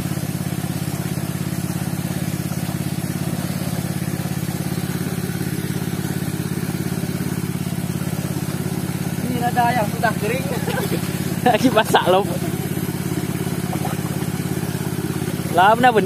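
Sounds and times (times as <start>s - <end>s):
small petrol engine running: 0.0s - 16.0s.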